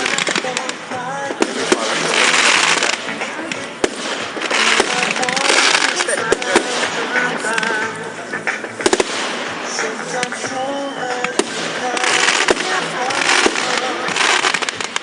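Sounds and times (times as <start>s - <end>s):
fireworks bangs: 0.0s - 15.0s
fireworks hissing: 0.0s - 15.0s.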